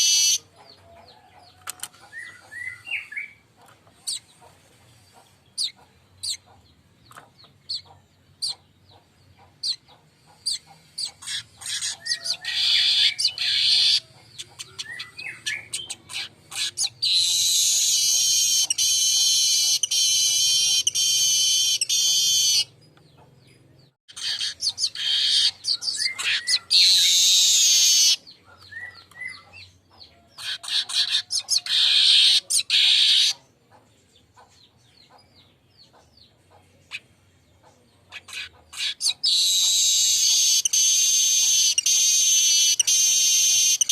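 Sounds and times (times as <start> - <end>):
weaver bird song: 0.0 - 43.9.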